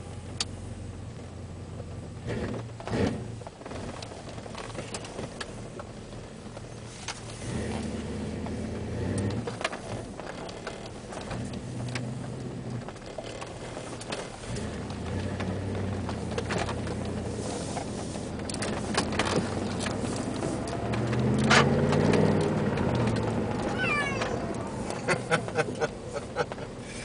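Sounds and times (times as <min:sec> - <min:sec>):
car engine from inside cabin: 0:00.0 - 0:27.0.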